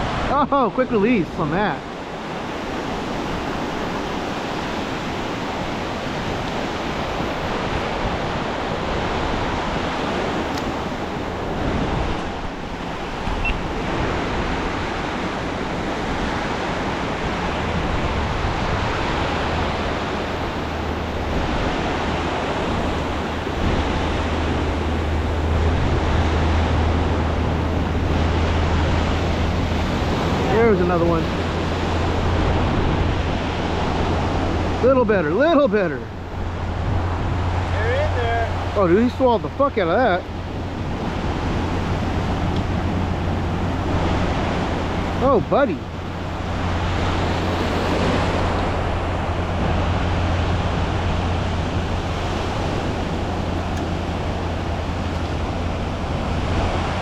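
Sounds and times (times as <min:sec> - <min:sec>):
ocean surf washing onto beach: 0:00.0 - 0:57.0.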